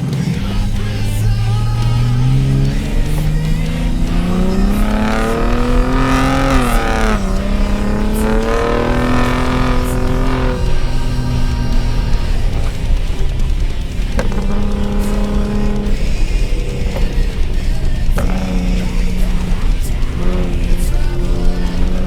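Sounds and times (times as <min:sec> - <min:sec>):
truck engine accelerating hard: 0:00.0 - 0:22.0.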